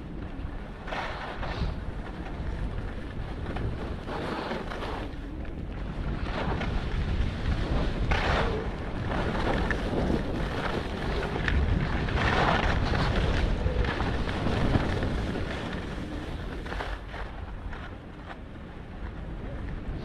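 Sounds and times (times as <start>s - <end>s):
skis scraping over snow: 0.0s - 20.0s
wind buffeting microphone: 0.0s - 20.0s.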